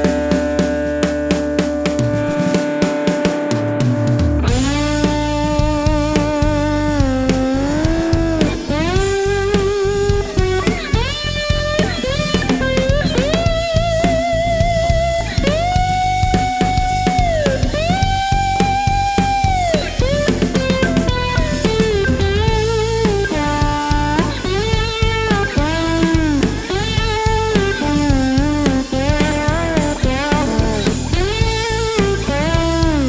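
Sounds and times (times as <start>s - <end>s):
drum beat: 0.0s - 33.0s
fuzz electric guitar lead: 0.0s - 33.0s.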